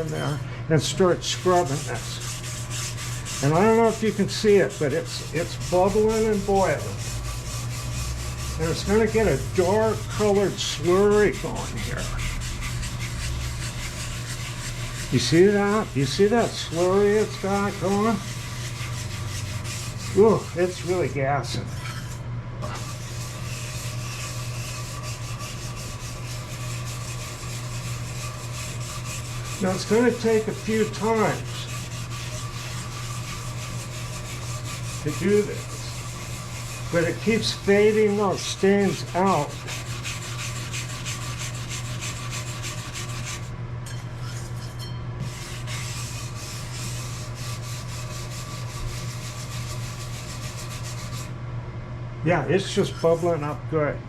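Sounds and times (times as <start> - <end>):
wire brush scrubbing metal: 0.0 - 51.3
ventilation fan humming: 0.0 - 54.0.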